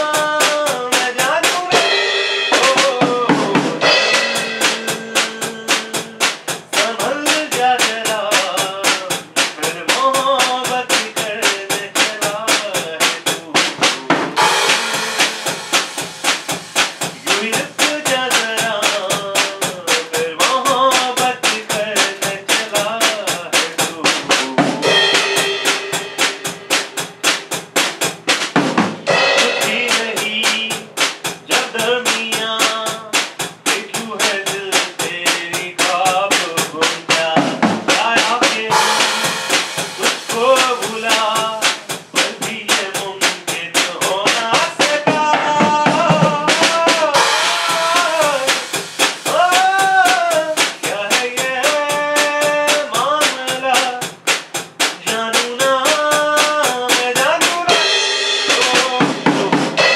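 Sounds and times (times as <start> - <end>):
acoustic drum kit beat: 0.0 - 59.9.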